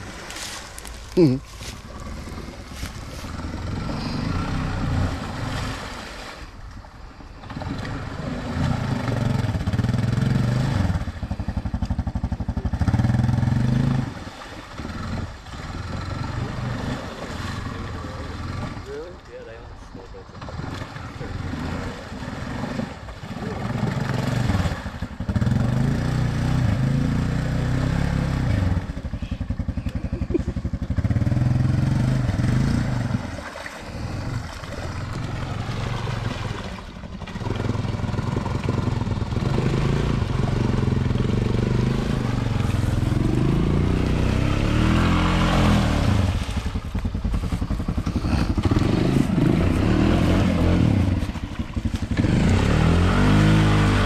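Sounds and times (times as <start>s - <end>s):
atv engine revving: 0.0s - 6.2s, 7.4s - 54.0s
splashing through water: 0.0s - 54.0s.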